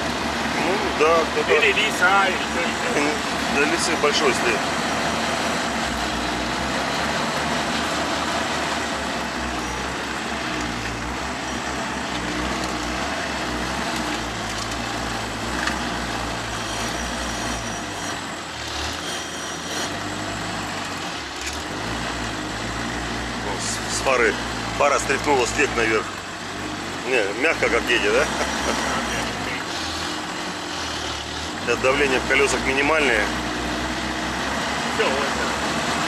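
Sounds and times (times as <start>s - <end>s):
vehicle engine running under load: 0.0s - 36.0s.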